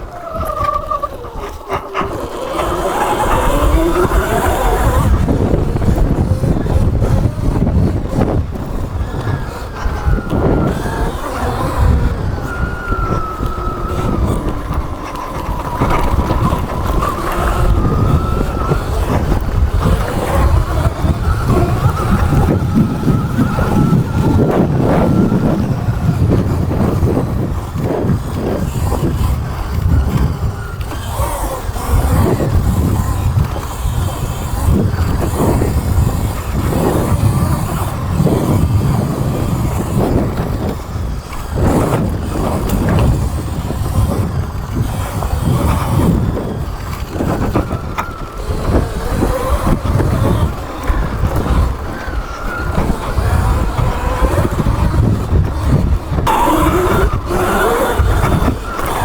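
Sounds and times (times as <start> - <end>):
electric motor whine: 0.0 - 59.0
tyre and ride noise: 0.0 - 59.0
wind buffeting microphone: 0.0 - 59.0.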